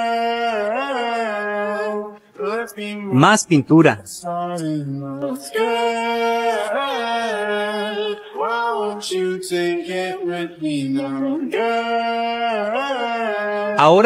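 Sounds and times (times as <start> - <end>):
person singing long notes: 0.0 - 2.9, 4.2 - 13.8.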